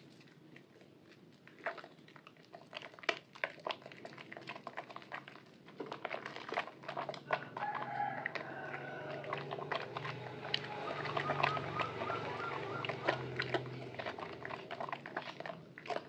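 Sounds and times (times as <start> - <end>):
wet soap squishing between hands: 0.0 - 16.0.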